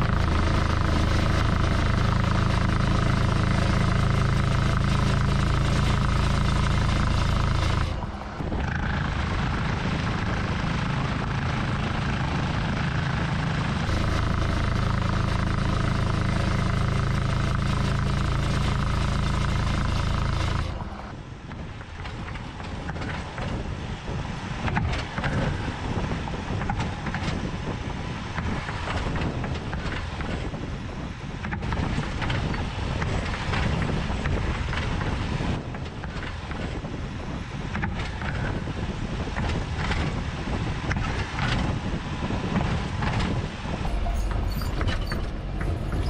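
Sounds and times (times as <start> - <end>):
truck passing by: 0.0 - 46.0
vehicle drone from underneath: 0.0 - 46.0
wind on microphone: 0.0 - 46.0.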